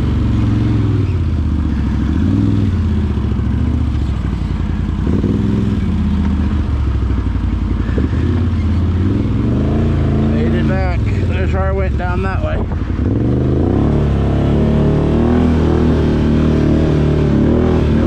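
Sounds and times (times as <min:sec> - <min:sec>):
atv engine revving: 0:00.0 - 0:18.0.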